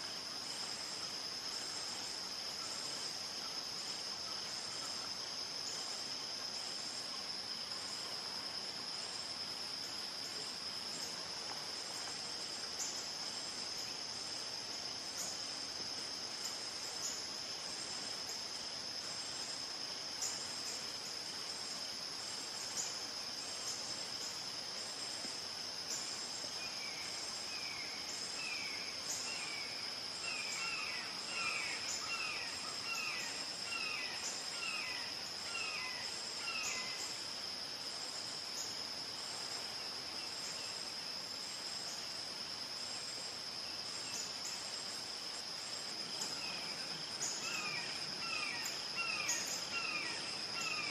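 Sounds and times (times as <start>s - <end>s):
crickets and insects droning: 0.0s - 50.9s.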